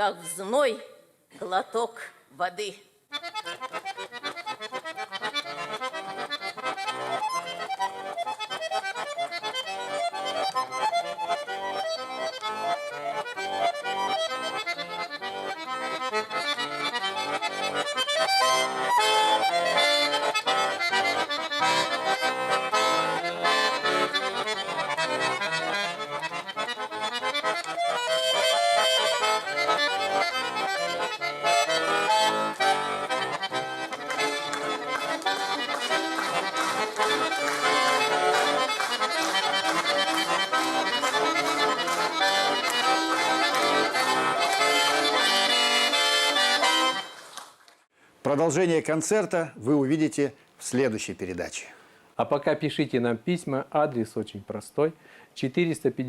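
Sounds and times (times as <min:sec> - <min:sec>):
accordion folk tune: 0:00.0 - 0:47.4.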